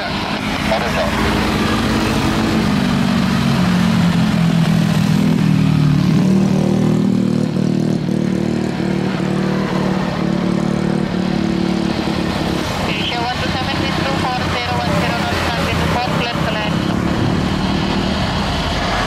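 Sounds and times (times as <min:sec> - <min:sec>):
distant jet engines on takeoff: 0:00.0 - 0:19.0.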